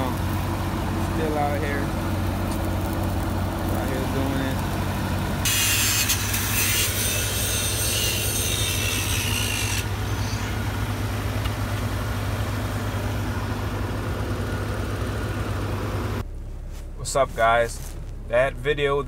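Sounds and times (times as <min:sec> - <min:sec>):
welder engine humming: 0:00.0 - 0:19.0.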